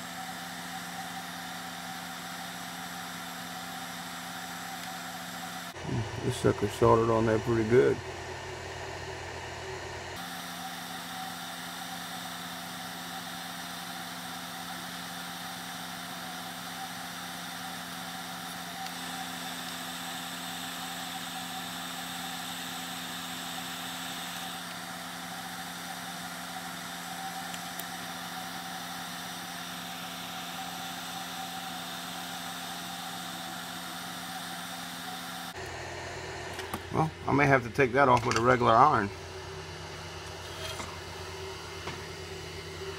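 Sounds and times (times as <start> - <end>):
hot air station blowing with hum: 0.0 - 42.9.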